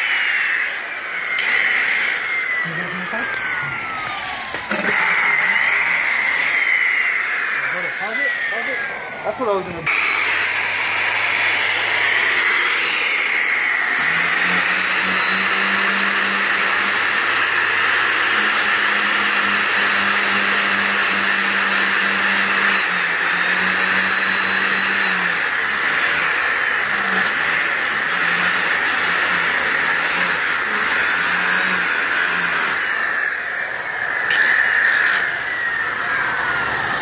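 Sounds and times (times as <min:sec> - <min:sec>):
polisher high whine: 0:00.0 - 0:37.0.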